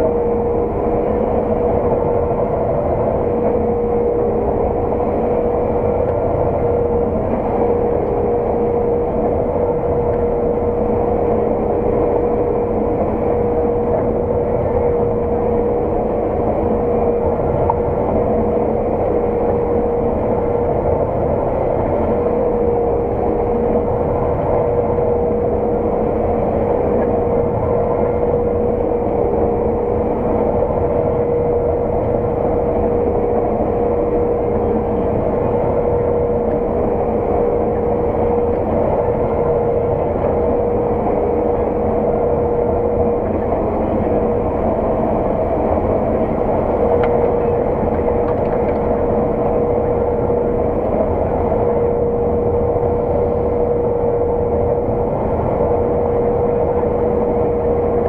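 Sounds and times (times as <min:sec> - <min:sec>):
constant high whine: 0:00.0 - 0:58.0
farm machine engine drone: 0:00.0 - 0:58.0.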